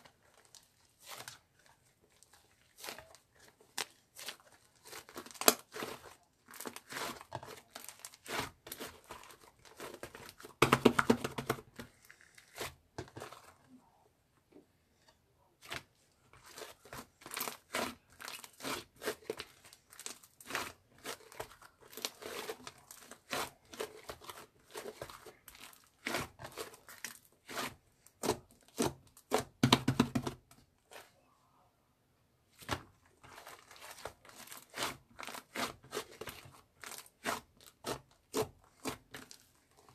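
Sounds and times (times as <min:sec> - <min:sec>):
crinkling and tearing: 0:00.1 - 0:13.8, 0:15.6 - 0:30.2, 0:32.5 - 0:39.9.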